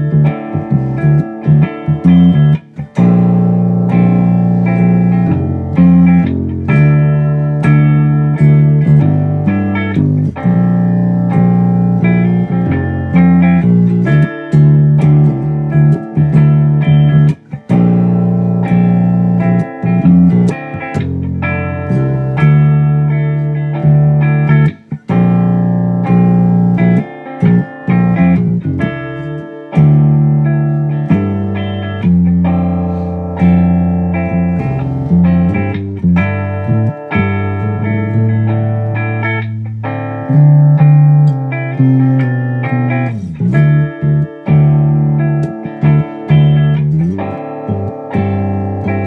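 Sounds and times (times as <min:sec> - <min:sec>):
electric guitar chords: 0:00.0 - 0:49.0.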